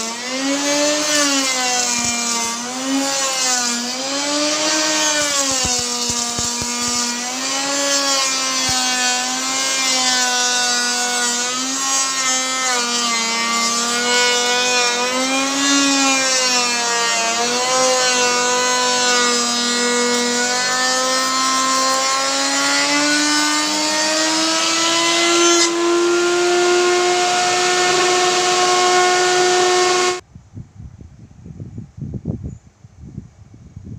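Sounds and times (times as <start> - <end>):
router motor whining: 0.0 - 30.2.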